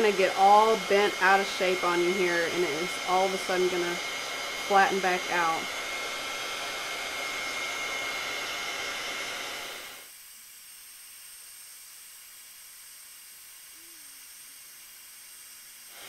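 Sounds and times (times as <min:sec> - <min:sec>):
heat gun blowing with whine: 0:00.0 - 0:16.0.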